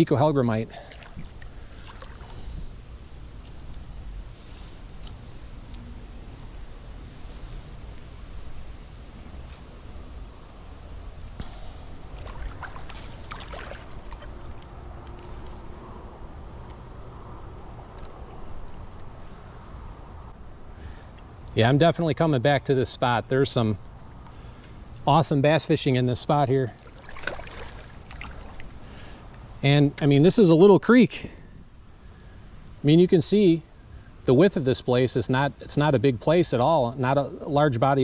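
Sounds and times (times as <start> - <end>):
high-pitched insect chorus: 0.0 - 38.0.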